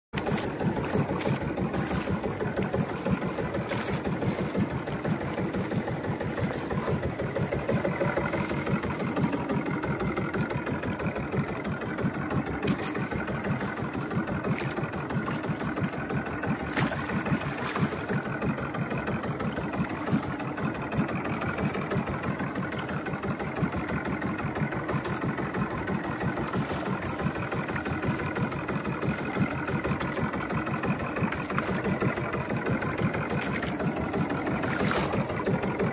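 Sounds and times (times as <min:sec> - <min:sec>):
boat engine pulsing: 0:00.0 - 0:35.9
wind: 0:00.0 - 0:35.9.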